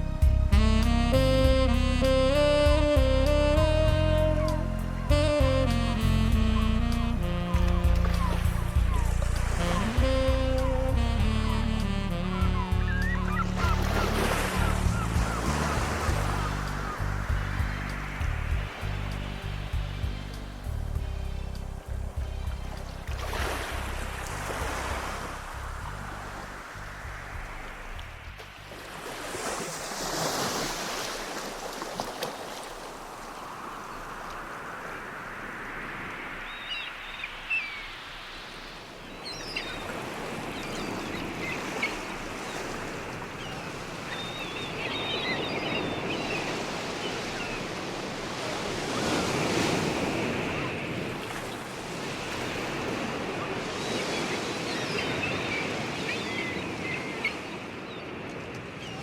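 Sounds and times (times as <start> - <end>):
ocean waves washing in: 0.0 - 59.0.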